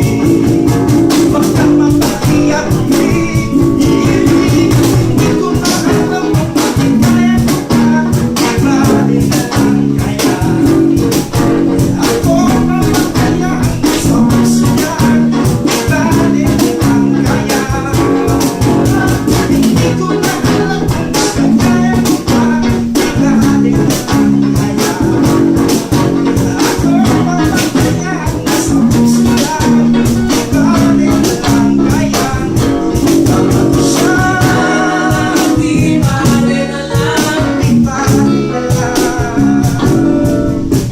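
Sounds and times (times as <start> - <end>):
guitar chords: 0.0 - 40.9
steady drum beat: 0.0 - 40.9.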